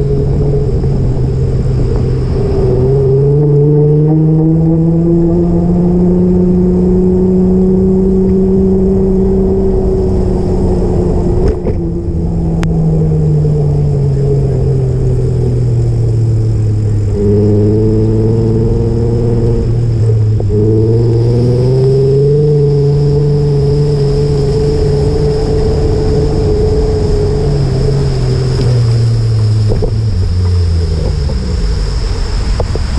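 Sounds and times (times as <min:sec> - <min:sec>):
vehicle engine revving: 0:00.0 - 0:32.9.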